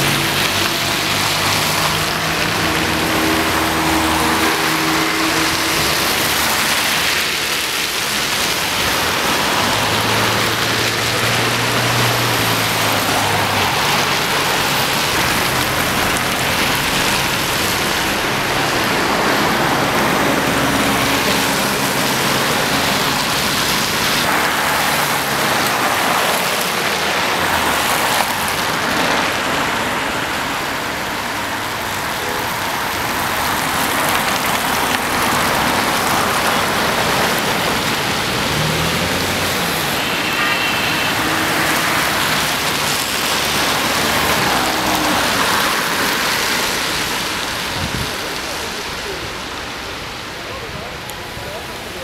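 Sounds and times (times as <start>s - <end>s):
passing engines humming: 0.0s - 52.0s
tyres hissing on road: 0.0s - 52.0s.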